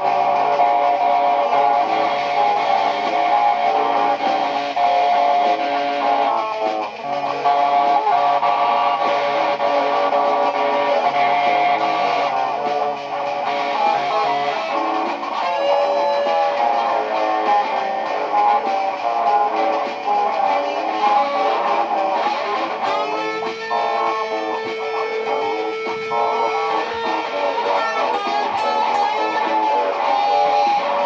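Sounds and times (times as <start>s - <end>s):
layered electric guitar loops: 0.0s - 31.0s.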